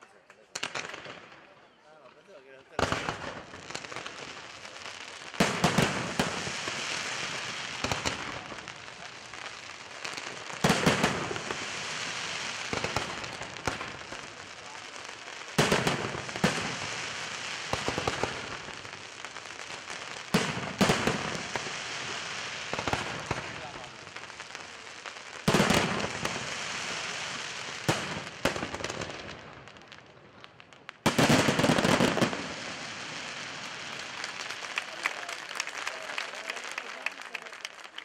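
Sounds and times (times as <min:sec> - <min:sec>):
firework crackling: 0:02.7 - 0:38.0.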